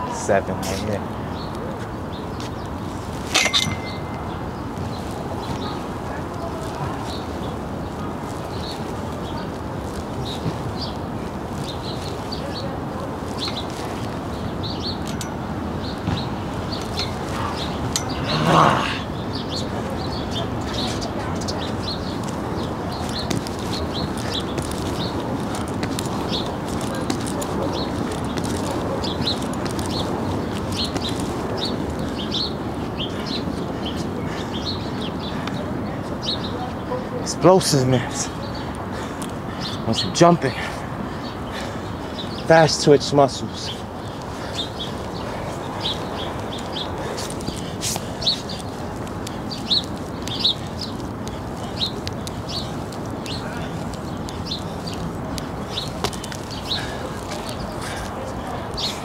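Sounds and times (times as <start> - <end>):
rushing background noise: 0.0 - 59.0
small birds chirping: 0.1 - 59.0.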